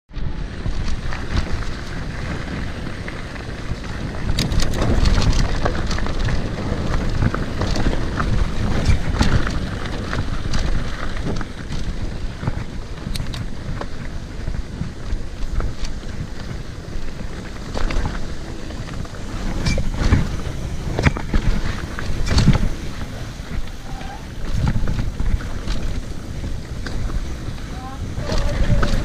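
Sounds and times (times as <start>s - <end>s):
bike clicks and rattles: 0.1s - 29.0s
bike tyres on dirt trail: 0.1s - 29.0s
wind buffeting microphone: 0.1s - 29.0s.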